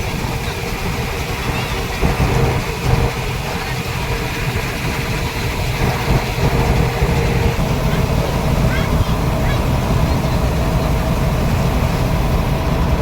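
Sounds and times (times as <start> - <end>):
combine harvester engine running: 0.0 - 13.0.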